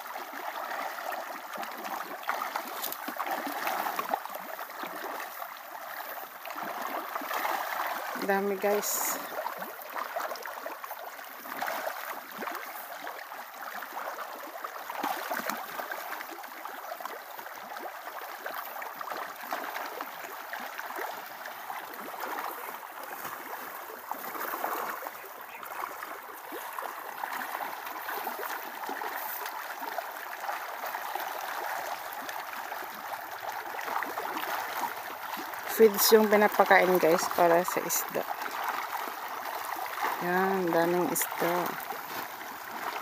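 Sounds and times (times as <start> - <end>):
fish splashing in pond water: 0.0 - 43.0.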